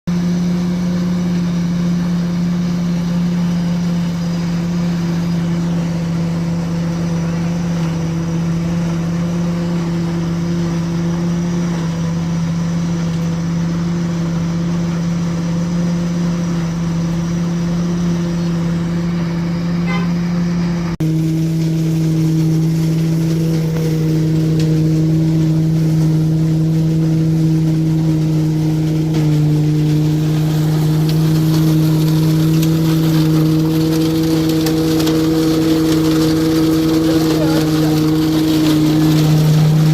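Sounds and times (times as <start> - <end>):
steady engine drone: 0.1 - 39.9.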